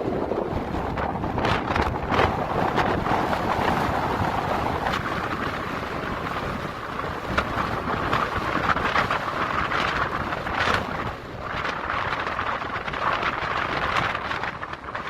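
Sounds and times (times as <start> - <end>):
waves breaking on beach: 0.0 - 15.0
wind blowing over microphone: 0.0 - 15.0.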